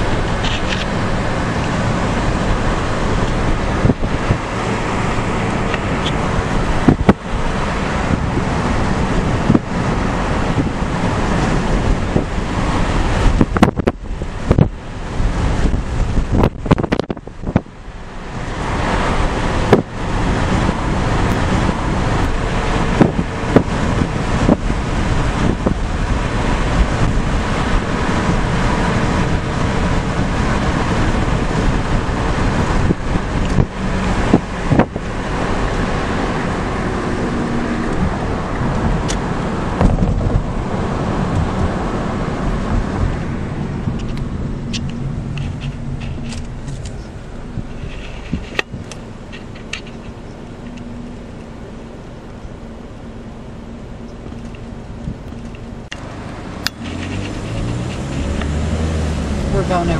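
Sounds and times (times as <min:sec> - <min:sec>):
wind buffeting microphone: 0:00.0 - 0:51.4
car road noise: 0:00.0 - 0:59.9.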